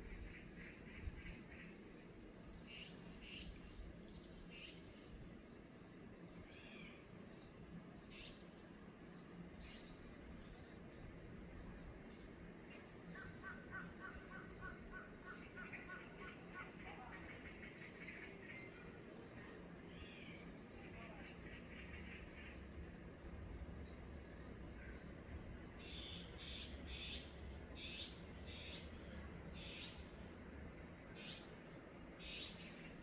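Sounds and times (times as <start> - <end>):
faint birdsong: 0.0 - 33.0.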